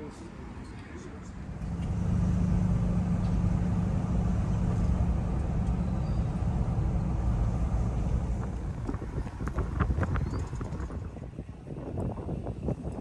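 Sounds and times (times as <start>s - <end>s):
road noise: 0.0s - 13.0s
van engine hum: 1.2s - 12.8s.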